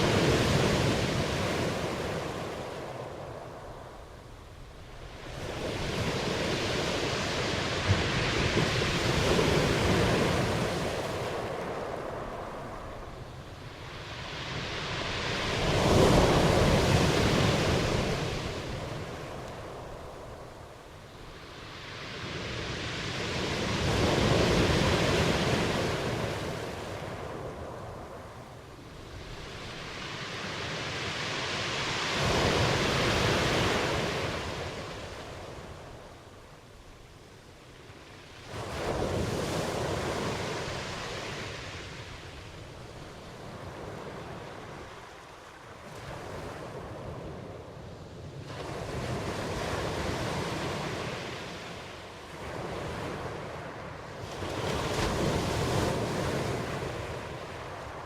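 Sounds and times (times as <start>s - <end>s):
ocean waves breaking: 0.0s - 36.3s, 38.0s - 58.0s.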